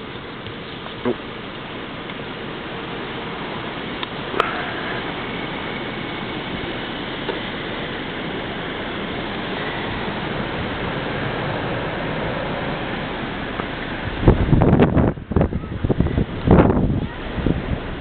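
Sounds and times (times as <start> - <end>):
snowstorm wind hissing: 0.0 - 18.0.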